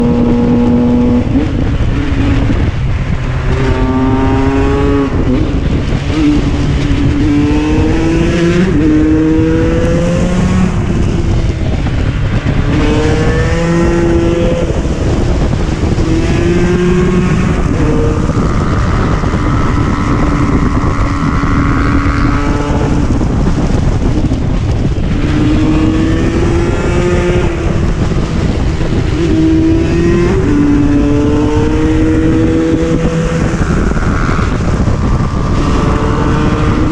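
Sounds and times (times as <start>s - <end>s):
constant rush of noise: 0.0s - 36.9s
two-stroke motorcycle engine revving: 0.0s - 36.9s.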